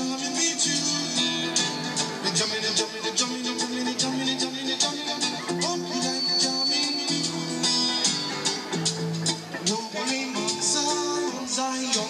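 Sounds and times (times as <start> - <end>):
amplified guitar music: 0.0 - 12.0
steady beat: 0.0 - 12.0.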